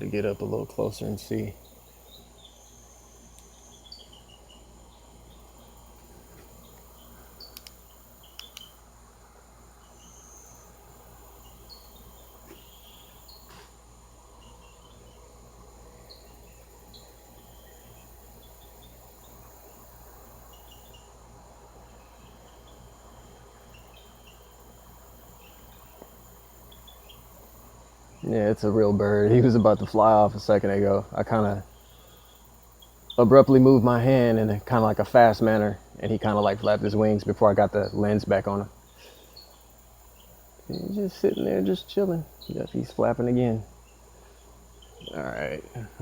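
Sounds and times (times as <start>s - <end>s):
birds chirping: 0.0s - 46.0s
crickets droning: 0.0s - 46.0s.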